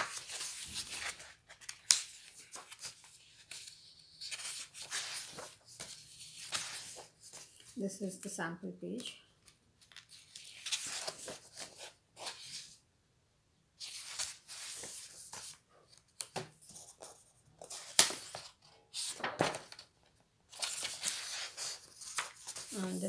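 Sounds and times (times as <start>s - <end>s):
paper pages rustling and sliding: 0.0s - 7.8s, 9.4s - 12.8s, 13.8s - 19.9s, 20.5s - 23.0s.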